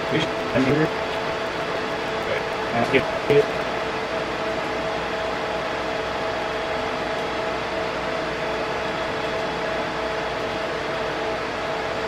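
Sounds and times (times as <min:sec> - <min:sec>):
server cooling fans rushing: 0:00.0 - 0:12.0
steady whining tones: 0:00.0 - 0:12.0.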